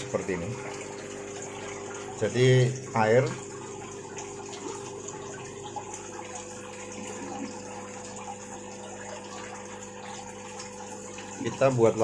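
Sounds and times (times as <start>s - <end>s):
water bubbling and trickling: 0.0s - 12.0s.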